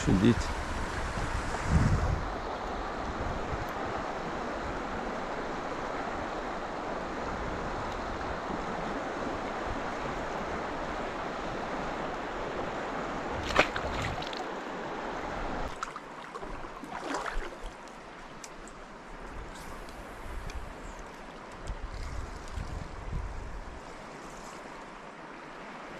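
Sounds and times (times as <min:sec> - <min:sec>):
river water rushing: 0:00.0 - 0:21.7.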